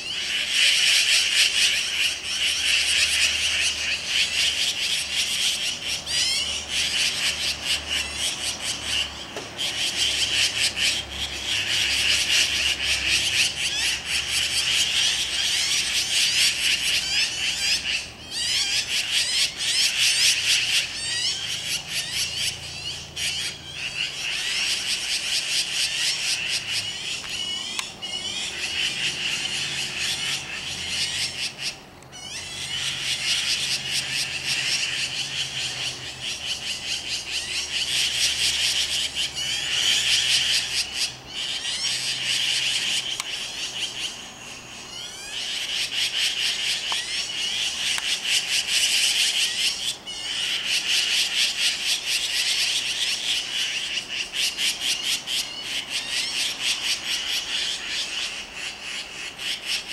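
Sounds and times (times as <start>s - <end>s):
chorus of high chirping calls: 0.0s - 59.9s.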